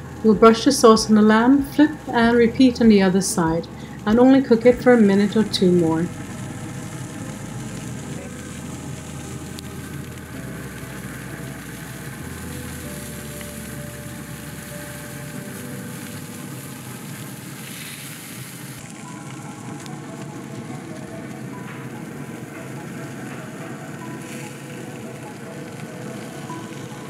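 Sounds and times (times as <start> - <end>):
meat sizzling on grill: 0.0 - 27.0.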